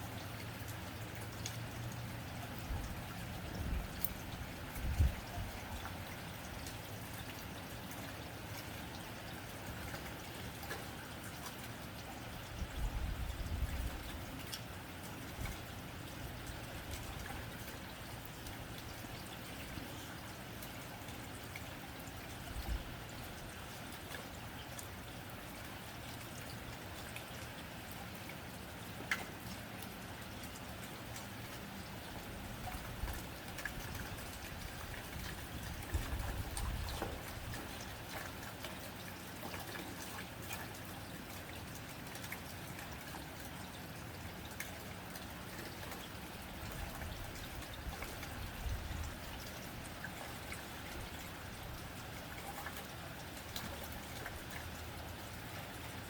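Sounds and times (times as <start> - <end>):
rain pattering on a tin roof: 0.0 - 56.0.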